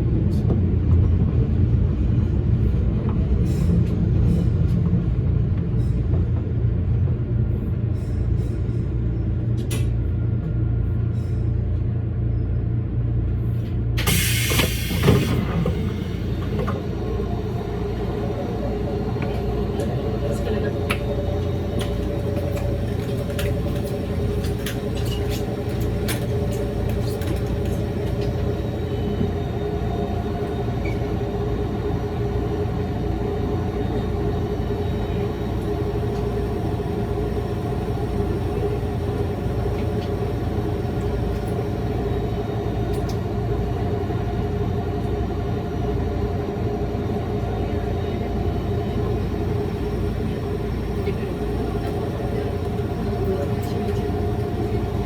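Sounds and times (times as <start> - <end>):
electric train rumble and whine: 0.0 - 55.0.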